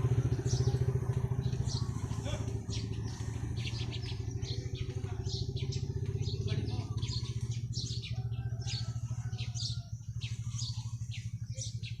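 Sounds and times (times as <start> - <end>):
small birds chirping: 0.0 - 12.0
vehicle engine running: 0.0 - 12.0.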